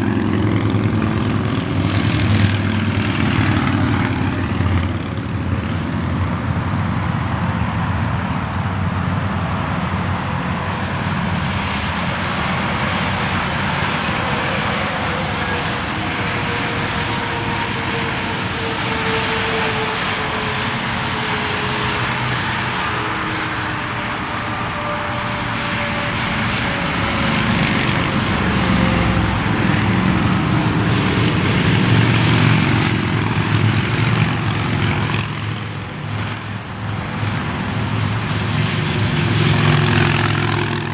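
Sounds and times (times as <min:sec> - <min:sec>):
motorcycles passing on highway: 0:00.0 - 0:40.9.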